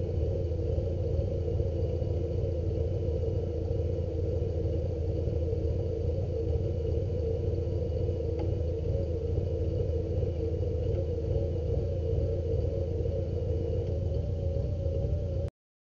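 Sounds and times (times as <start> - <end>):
engine running steadily: 0.0 - 15.5.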